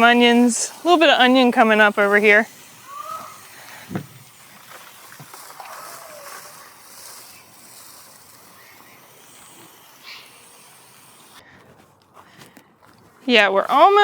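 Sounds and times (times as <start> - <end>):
hose sprayer hissing: 0.0 - 11.5, 13.3 - 14.0.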